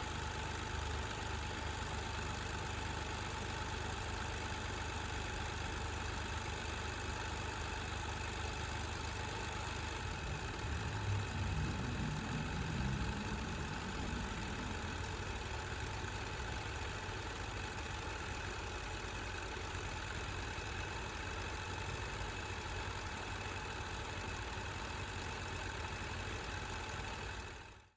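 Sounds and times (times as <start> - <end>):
car engine idling: 0.0 - 27.7.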